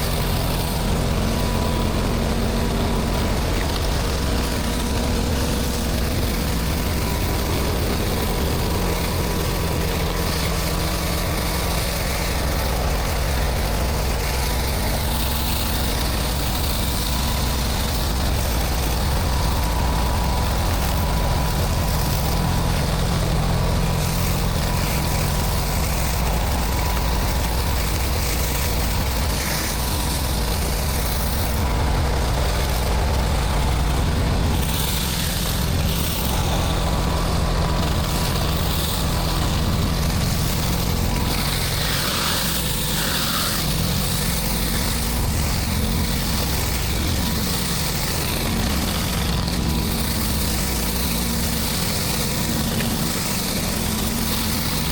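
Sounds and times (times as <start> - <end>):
pressure washer running: 0.0 - 54.9.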